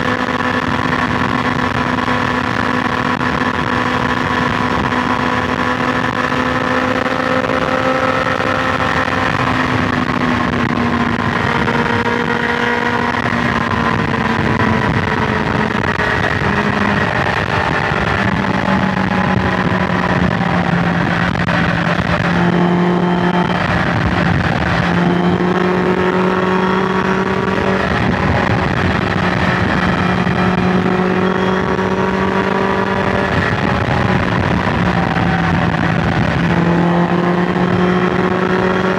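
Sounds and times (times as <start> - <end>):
motorcycle engine cruising: 0.0 - 38.9
wind and road noise: 0.0 - 38.9.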